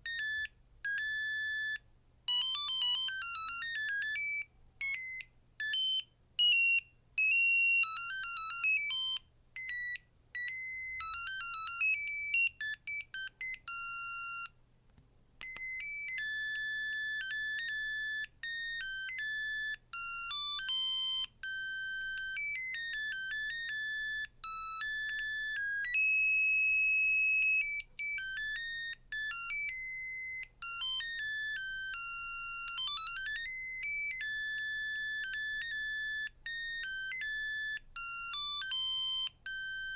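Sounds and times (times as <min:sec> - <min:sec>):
electronic phone ringtone melodies: 0:00.0 - 0:14.6, 0:15.4 - 0:39.9.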